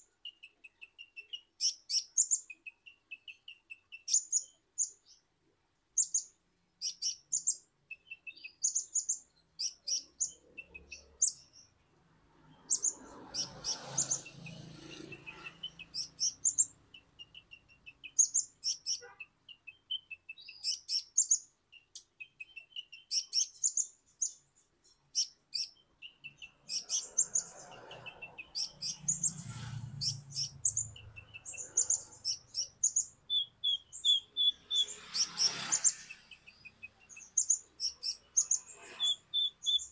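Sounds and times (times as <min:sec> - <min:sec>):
bird chirps and twitters: 0:00.0 - 0:05.3, 0:06.0 - 0:39.9.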